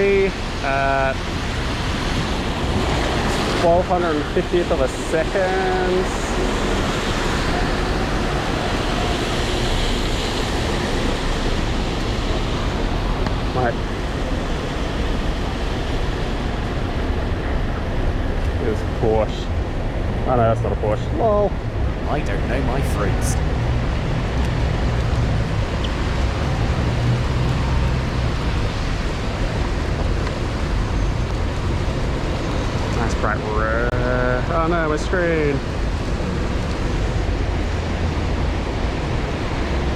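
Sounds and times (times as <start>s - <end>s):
heavy rain pouring: 0.0s - 18.9s, 21.2s - 39.9s
traffic: 0.0s - 39.9s.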